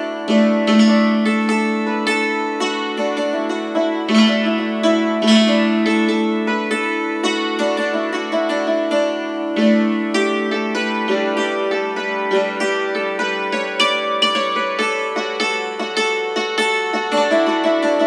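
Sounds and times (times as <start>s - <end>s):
hammered dulcimer playing: 0.0s - 18.0s.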